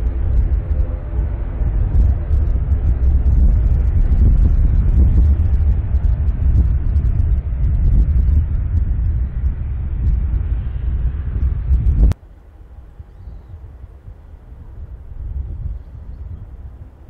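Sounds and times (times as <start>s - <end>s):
gusty wind rumble on microphone: 0.0s - 17.0s
turboprop engine and propeller drone: 0.0s - 17.0s.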